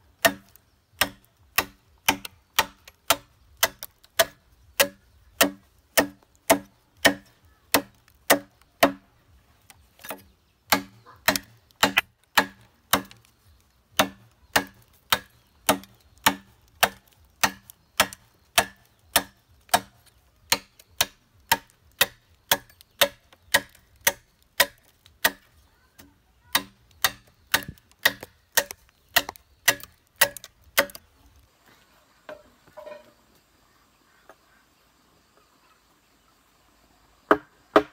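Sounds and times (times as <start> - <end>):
machete chopping bamboo: 0.1 - 31.1, 37.3 - 37.9.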